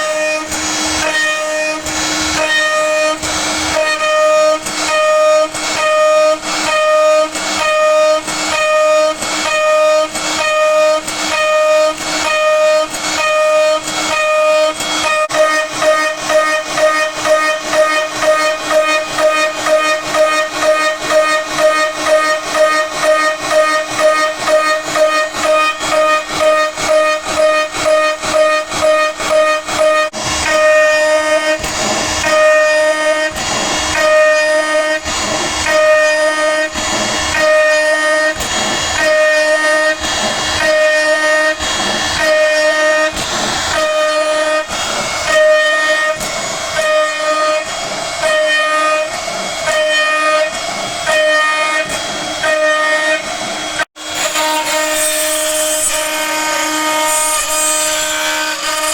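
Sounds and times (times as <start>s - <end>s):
endmill cutting steel: 0.0s - 58.9s.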